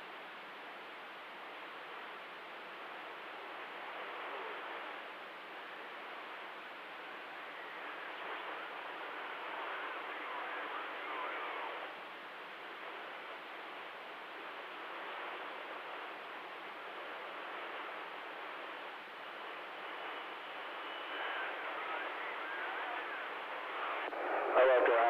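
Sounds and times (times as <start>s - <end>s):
faint radio signal: 0.0s - 25.0s
radio static hiss: 0.0s - 25.0s.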